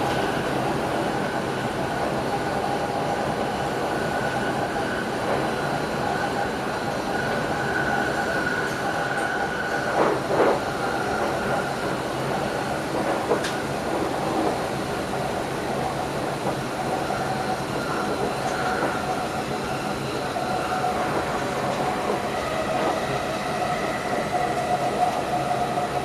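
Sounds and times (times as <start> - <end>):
train rumble with high whine: 0.0 - 26.0.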